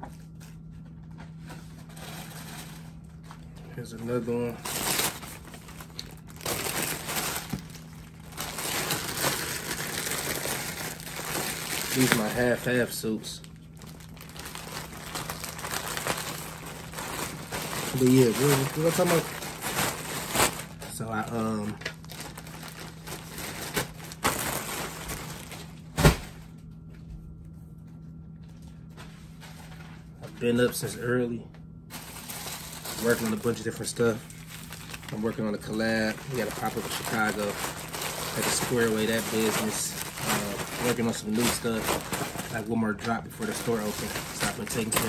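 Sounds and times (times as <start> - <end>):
plastic bag crinkling: 0.2 - 26.4, 31.9 - 45.0.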